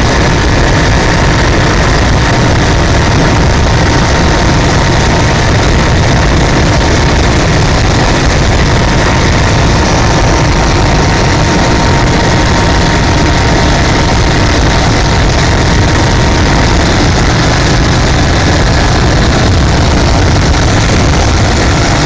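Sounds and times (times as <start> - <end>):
helicopter engine and rotor: 0.0 - 22.0
thin steady whine: 0.0 - 22.0.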